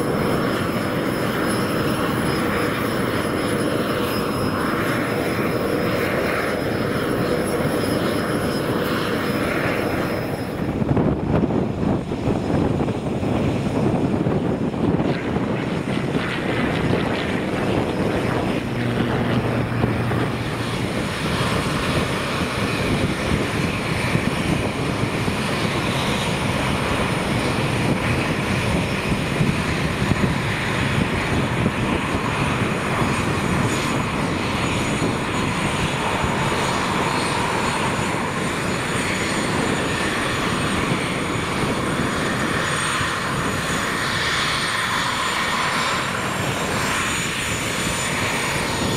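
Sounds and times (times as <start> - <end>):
jet engines whining while taxiing: 0.0 - 48.9.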